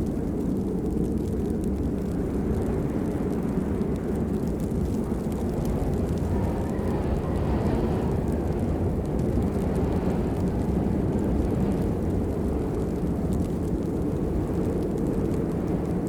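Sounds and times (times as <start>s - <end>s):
raindrop ticks: 0.0s - 16.0s
steady rainfall: 0.0s - 16.0s.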